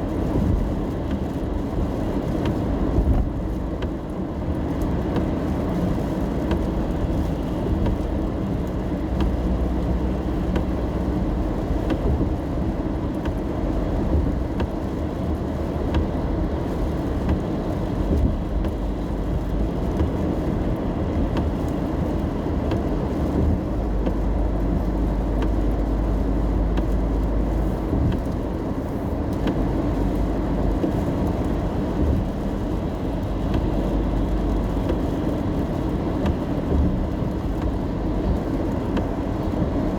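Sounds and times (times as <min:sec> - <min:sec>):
car road and engine rumble: 0:00.0 - 0:39.9
rain tapping on car: 0:00.0 - 0:39.9.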